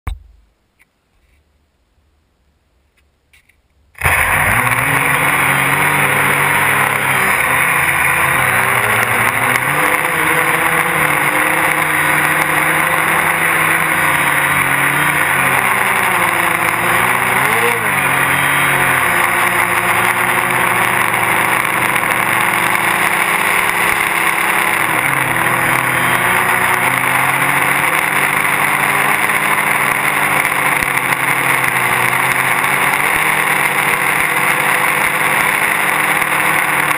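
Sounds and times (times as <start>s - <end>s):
quadcopter motors humming: 4.0s - 36.9s.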